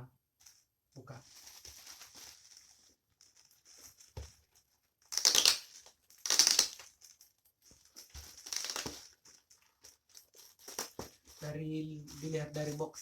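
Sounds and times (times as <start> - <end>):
small rustles and clicks: 0.4 - 13.0.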